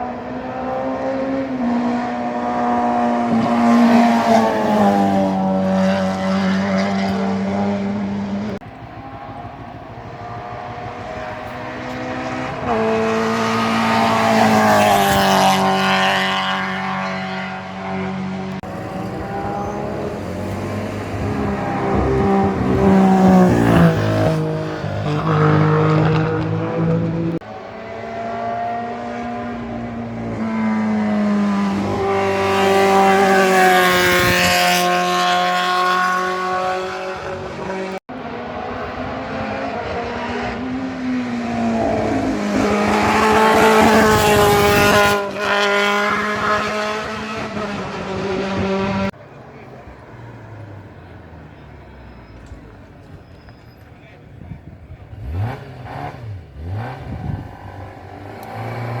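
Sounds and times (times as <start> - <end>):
racing cars passing at full throttle: 0.0 - 59.0.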